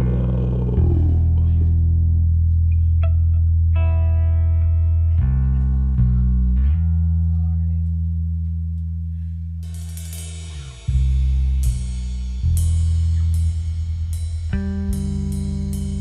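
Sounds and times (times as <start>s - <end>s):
distorted guitar and bass riff: 0.0s - 16.0s.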